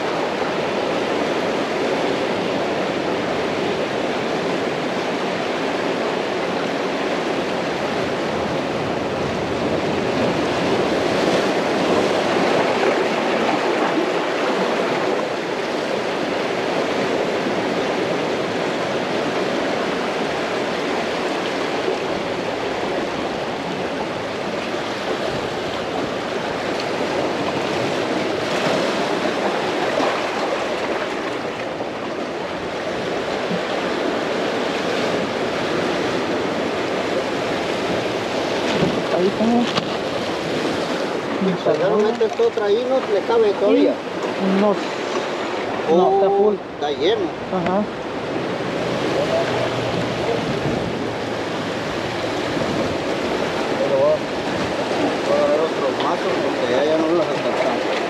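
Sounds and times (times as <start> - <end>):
sea surf breaking: 0.0 - 58.0.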